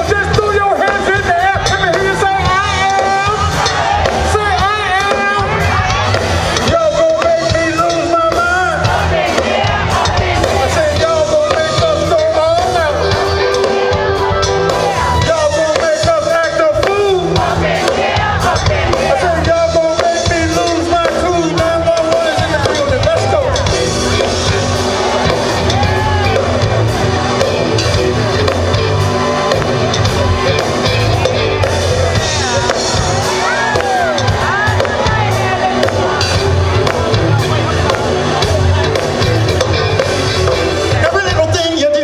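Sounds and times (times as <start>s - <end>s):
band music with singing: 0.0s - 42.0s
crowd voices: 0.0s - 42.0s.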